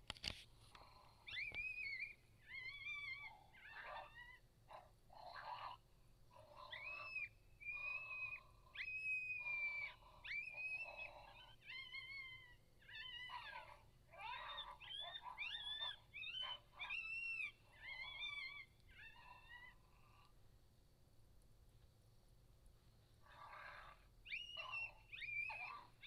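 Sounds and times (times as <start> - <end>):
coyote howls and yips: 0.8 - 20.3, 23.2 - 26.0.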